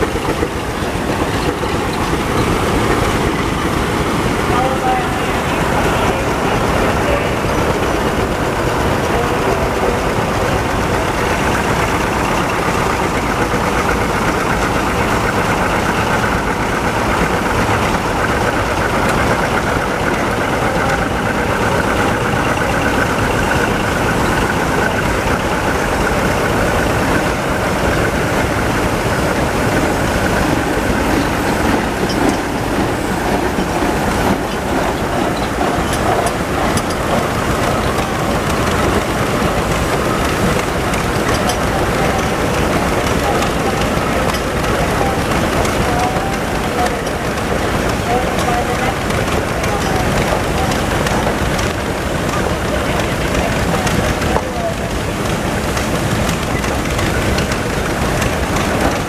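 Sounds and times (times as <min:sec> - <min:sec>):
steam traction engine running: 0:00.0 - 0:59.0.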